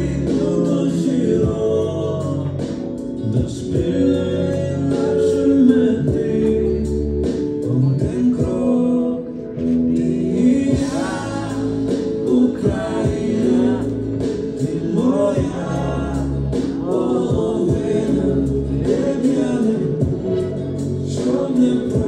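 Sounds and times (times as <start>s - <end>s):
instrumental backing with bass: 0.0s - 22.0s
man singing into a microphone: 0.0s - 22.0s.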